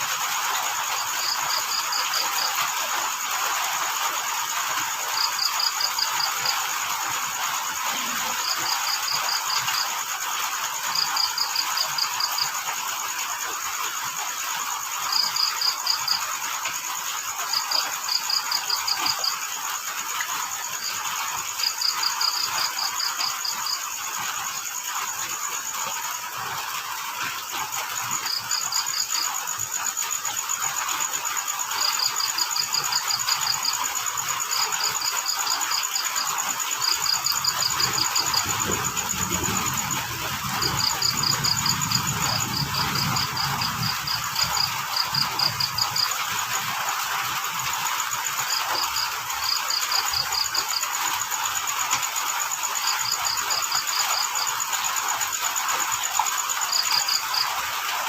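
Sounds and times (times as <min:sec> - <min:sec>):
insect high trill: 0:00.0 - 0:57.7
cricket chirping pulses: 0:00.0 - 0:58.0
rain hiss: 0:00.0 - 0:58.0.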